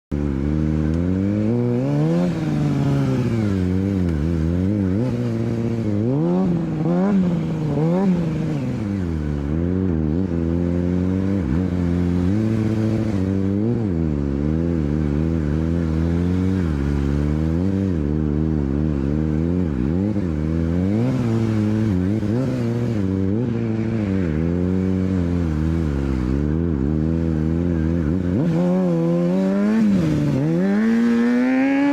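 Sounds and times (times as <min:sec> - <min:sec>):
motorcycle engine revving: 0:00.1 - 0:31.9.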